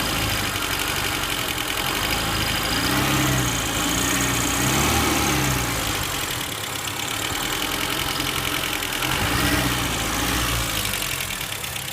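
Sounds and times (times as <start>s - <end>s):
vehicle engine idling: 0.0s - 11.9s.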